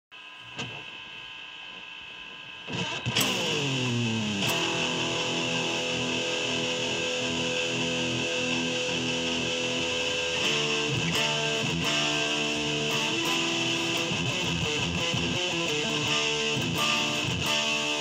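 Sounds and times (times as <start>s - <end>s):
amplifier hiss: 0.2s - 18.0s
electric guitar sliding note: 2.7s - 18.0s.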